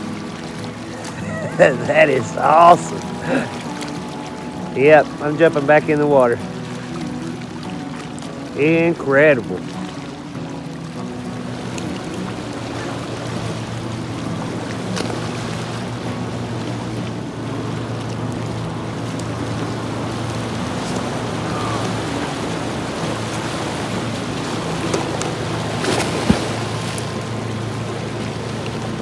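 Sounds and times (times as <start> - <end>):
low motor drone: 0.0 - 29.0
small waves lapping on rock: 0.0 - 29.0.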